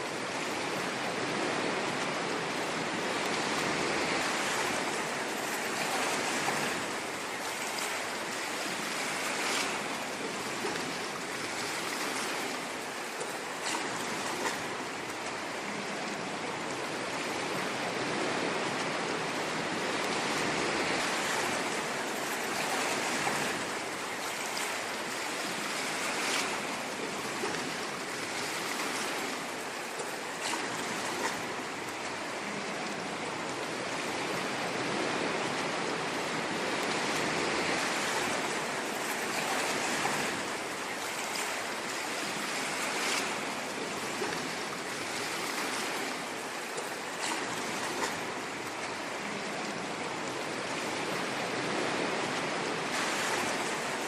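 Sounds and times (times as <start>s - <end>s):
ocean surf washing on shore: 0.0s - 54.0s.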